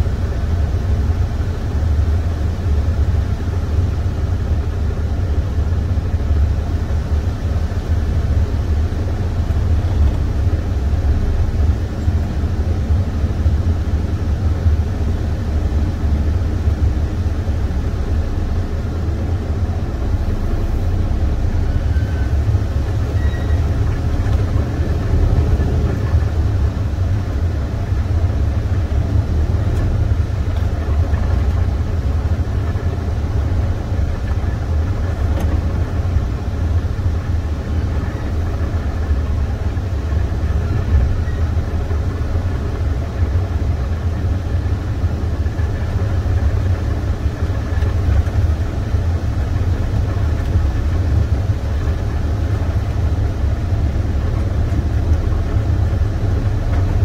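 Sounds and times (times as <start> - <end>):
truck diesel engine idling: 0.0 - 57.0.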